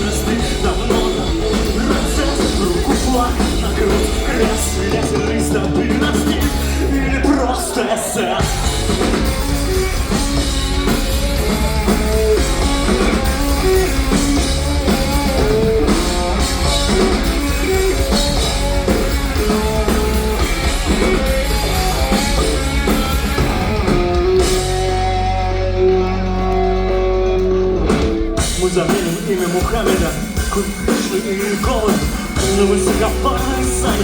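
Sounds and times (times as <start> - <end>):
drums and cymbals: 0.0 - 25.6, 27.9 - 34.0
bass guitar: 0.0 - 34.0
guitar riff: 0.0 - 34.0.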